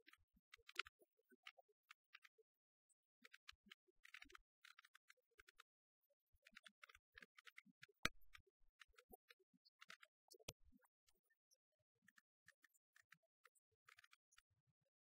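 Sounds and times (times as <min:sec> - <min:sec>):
faint clicks and crackle: 0:00.0 - 0:15.0.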